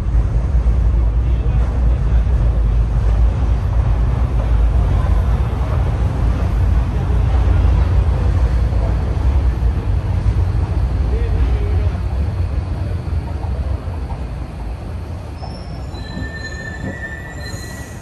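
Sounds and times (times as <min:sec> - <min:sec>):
escalator rumbling: 0:00.0 - 0:18.0.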